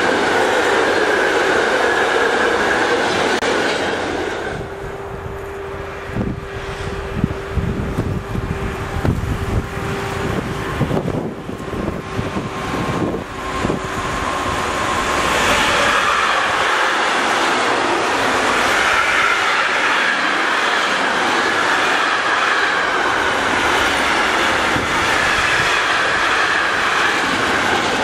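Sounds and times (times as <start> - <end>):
freight train rumbling and knocking: 0.0 - 28.0
wheels rushing on rails: 0.0 - 28.0.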